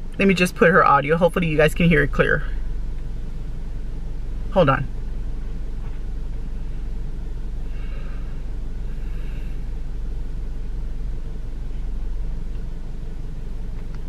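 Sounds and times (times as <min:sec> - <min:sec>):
low rumble inside car cabin: 0:00.0 - 0:14.0.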